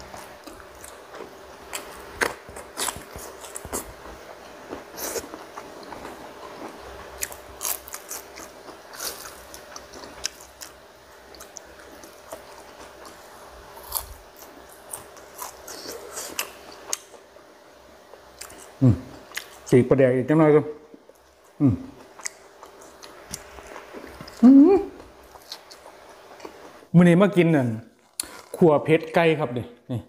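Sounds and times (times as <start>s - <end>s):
person chewing and crunching food: 0.0s - 17.2s, 18.1s - 19.7s, 20.9s - 26.8s, 28.0s - 28.7s.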